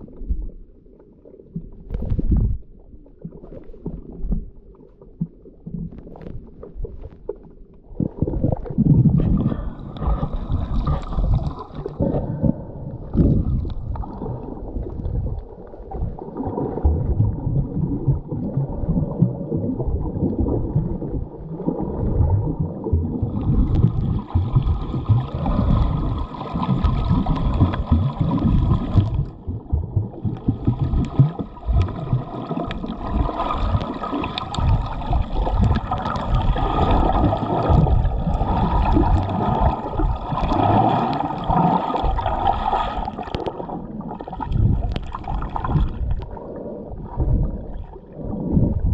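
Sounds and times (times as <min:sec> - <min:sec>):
diver's exhaust bubbles gurgling: 0:00.0 - 0:48.9.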